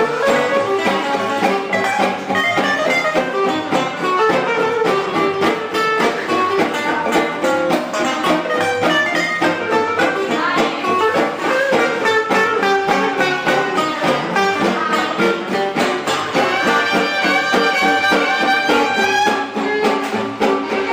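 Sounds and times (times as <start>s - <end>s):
fast plucked guitar: 0.0s - 20.9s.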